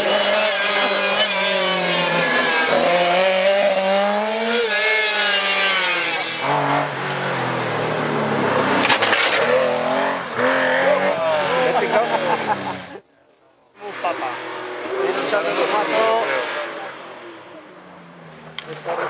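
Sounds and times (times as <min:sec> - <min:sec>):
rally car engine revving: 0:00.0 - 0:13.0, 0:13.8 - 0:19.0.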